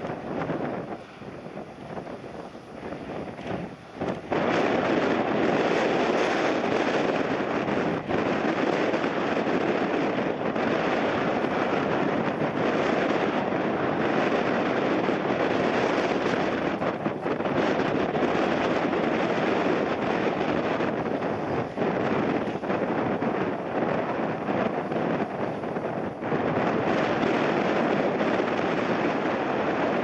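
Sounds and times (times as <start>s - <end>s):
jet engines roaring: 0.0s - 30.0s
wind buffeting microphone: 0.0s - 30.0s.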